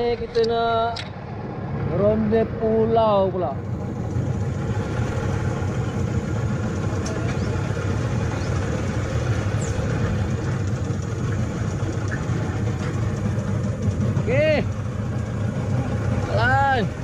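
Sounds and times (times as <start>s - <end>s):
boat motor idling: 0.0s - 17.0s.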